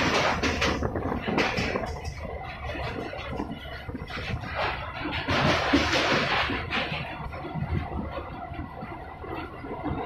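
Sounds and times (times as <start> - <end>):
coach rattling: 0.0 - 8.6
train wheels rumbling on rails: 0.0 - 10.0.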